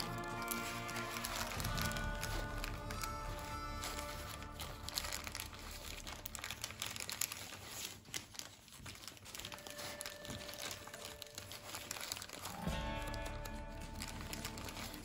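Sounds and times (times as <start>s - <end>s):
paper crinkling and crackling: 0.0s - 15.0s.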